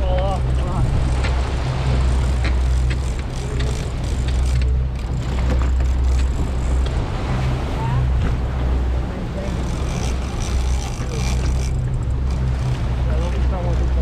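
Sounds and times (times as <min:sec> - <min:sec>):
outboard engines humming: 0:00.0 - 0:14.0
rushing wake water: 0:00.0 - 0:14.0
wind: 0:00.0 - 0:14.0.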